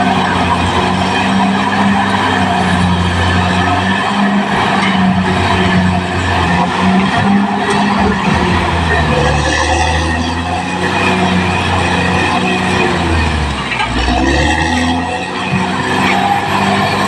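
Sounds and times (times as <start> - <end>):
bulldozer diesel engine: 0.0 - 17.0
steel tracks squealing: 0.0 - 17.0.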